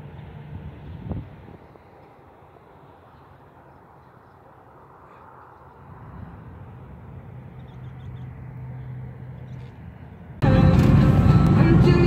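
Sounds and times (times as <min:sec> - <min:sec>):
outdoor background noise: 0:00.0 - 0:12.0
vehicle engine humming: 0:00.0 - 0:12.0.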